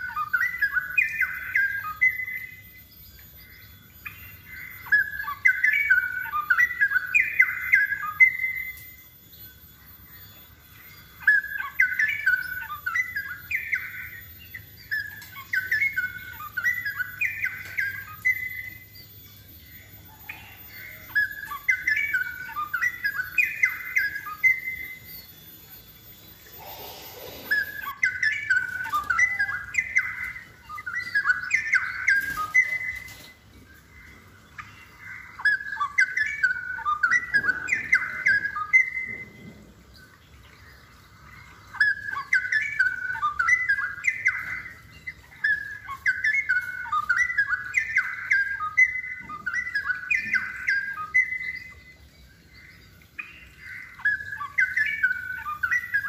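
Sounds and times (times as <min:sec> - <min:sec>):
bird singing warbled phrases: 0:00.0 - 0:56.0.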